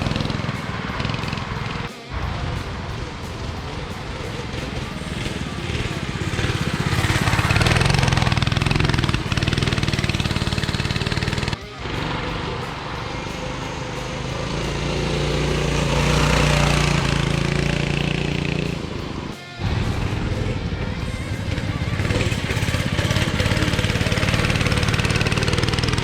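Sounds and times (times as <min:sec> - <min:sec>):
minibike engine running hard: 0:00.0 - 0:26.0.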